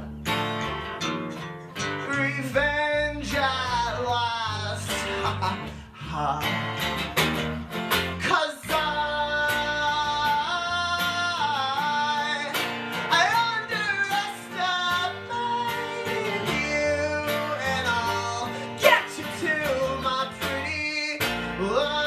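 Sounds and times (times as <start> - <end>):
acoustic guitar strumming: 0.0 - 22.0
electric bass: 0.0 - 22.0.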